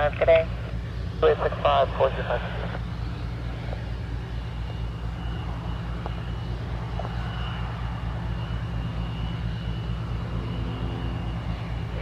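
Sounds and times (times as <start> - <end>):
aircraft engine rumbling: 0.0 - 12.0
faint high whine: 0.0 - 12.0.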